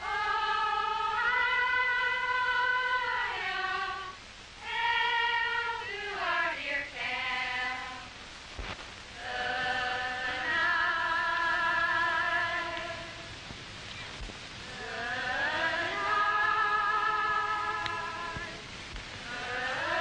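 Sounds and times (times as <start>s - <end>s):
young voices singing together: 0.0s - 8.2s, 9.1s - 13.5s, 14.6s - 20.0s.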